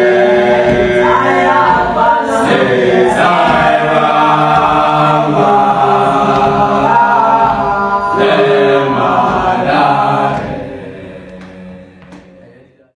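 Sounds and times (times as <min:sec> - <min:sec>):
male voices singing a cappella: 0:00.0 - 0:12.9.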